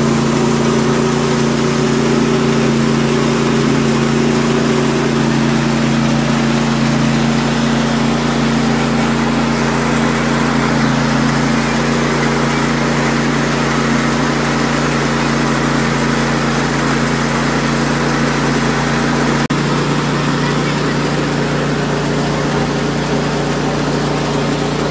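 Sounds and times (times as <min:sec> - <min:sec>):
rice milling machine drone: 0:00.0 - 0:24.9.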